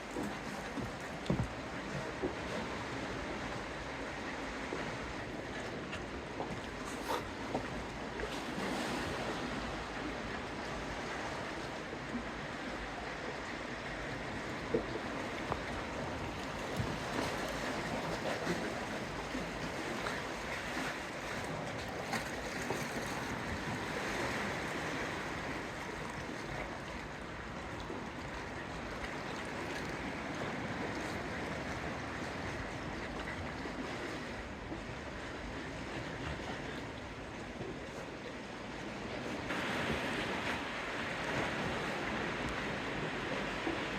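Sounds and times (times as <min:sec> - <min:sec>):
sea water noise: 0:00.0 - 0:43.9.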